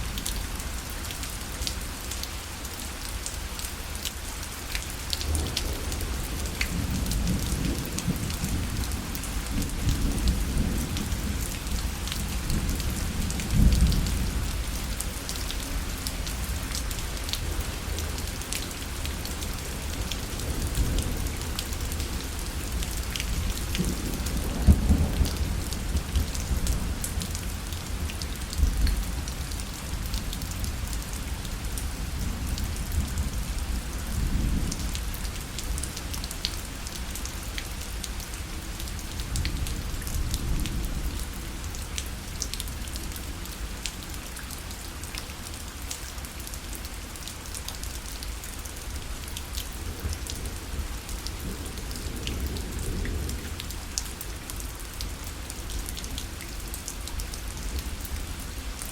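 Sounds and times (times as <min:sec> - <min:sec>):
rain pattering on a parasol: 0:00.0 - 0:58.9.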